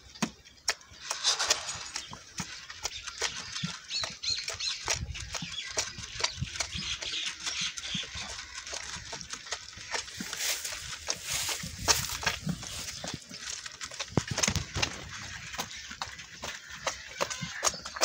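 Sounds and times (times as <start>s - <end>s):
calf sucking and smacking: 0.1s - 18.0s.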